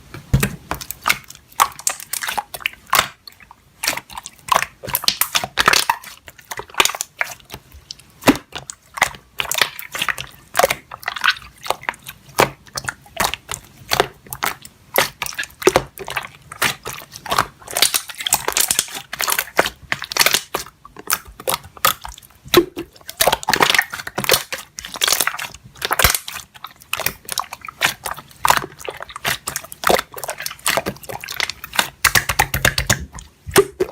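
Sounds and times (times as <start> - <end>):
slime squelching and popping: 0.1 - 33.9.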